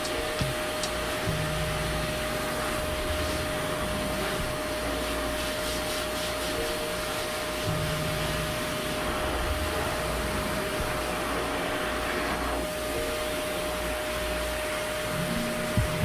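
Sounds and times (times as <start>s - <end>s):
hose dryer blowing air: 0.0s - 16.0s.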